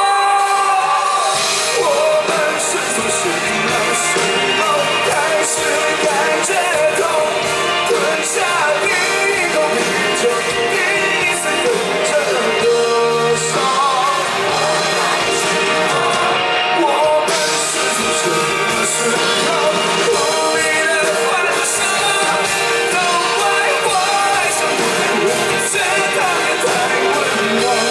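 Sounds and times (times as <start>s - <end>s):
lead vocal singing: 0.0s - 27.9s
live rock band playing: 0.0s - 27.9s.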